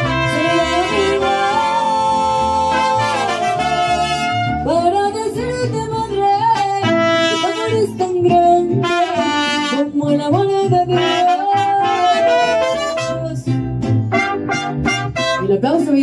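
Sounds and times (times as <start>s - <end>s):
trumpets playing melody: 0.0s - 4.9s, 6.8s - 13.5s, 14.1s - 15.7s
mariachi band playing: 0.0s - 16.0s.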